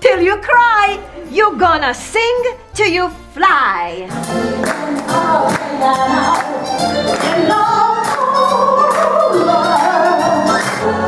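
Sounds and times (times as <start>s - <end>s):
backing track with steady beat: 0.0s - 11.0s
woman singing: 0.0s - 11.0s.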